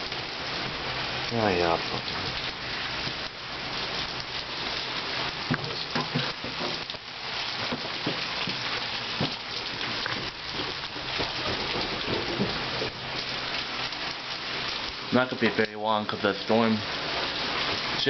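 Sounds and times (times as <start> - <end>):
hailstones tapping hard surfaces: 0.0 - 18.0
heavy rain pouring: 0.0 - 18.0.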